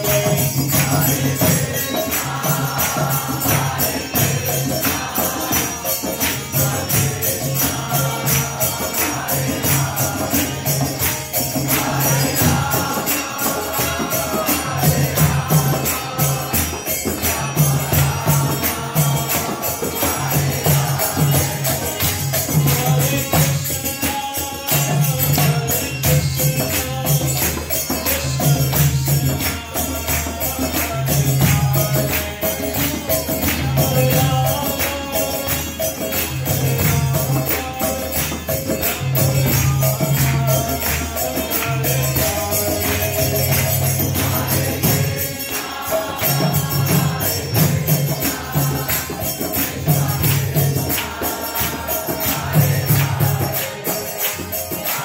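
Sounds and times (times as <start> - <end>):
hand claps: 0.0 - 24.7, 25.3 - 55.0
group chanting: 0.0 - 55.0
jingling hand cymbals: 0.0 - 55.0.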